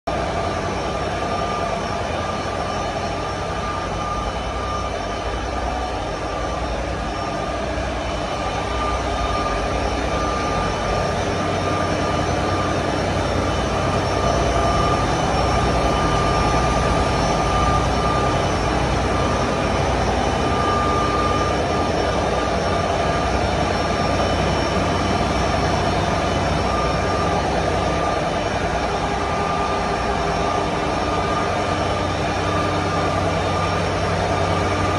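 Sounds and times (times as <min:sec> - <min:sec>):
engine room machinery drone: 0:00.0 - 0:34.9
constant high whine: 0:00.1 - 0:34.9.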